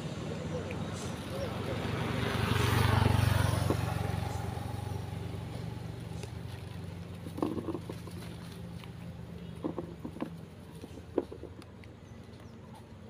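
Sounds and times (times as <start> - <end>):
motorcycle passing: 0.0 - 12.5.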